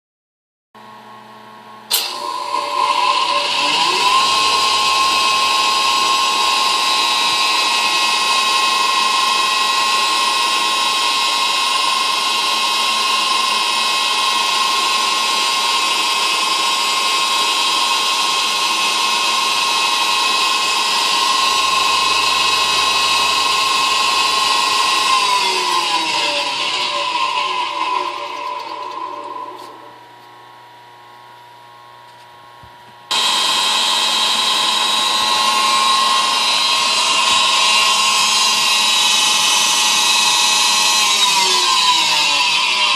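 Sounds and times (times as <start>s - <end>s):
electric mill motor whining: 1.9s - 30.2s, 33.1s - 42.9s.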